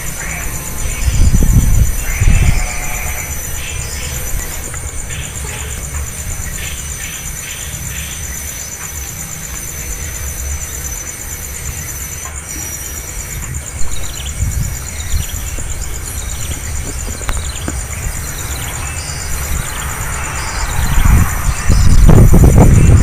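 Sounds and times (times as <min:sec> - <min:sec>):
high pulsing insect drone: 0:00.0 - 0:23.0
wind rumbling on microphone: 0:00.0 - 0:23.0
young birds chirping: 0:00.0 - 0:23.0.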